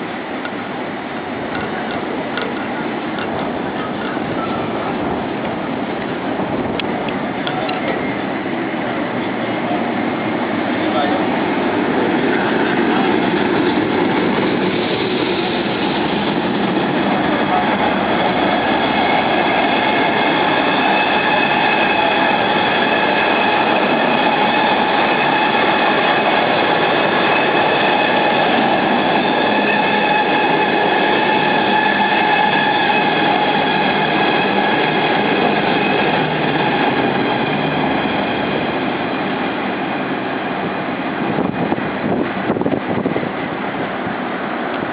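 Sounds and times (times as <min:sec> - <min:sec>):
train coaches rushing past: 0:00.0 - 0:44.9
wheels ringing on rail: 0:00.0 - 0:44.9.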